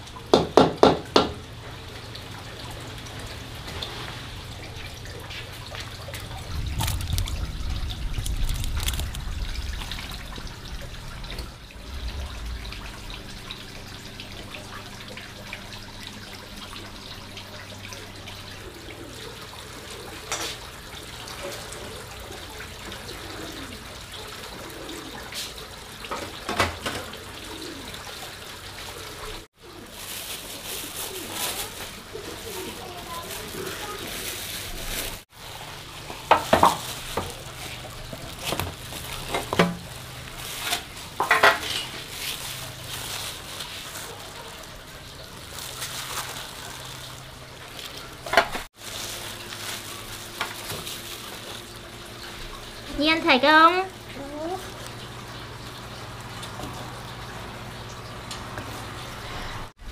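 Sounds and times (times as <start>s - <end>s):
water trickling and dripping: 0.0s - 59.9s.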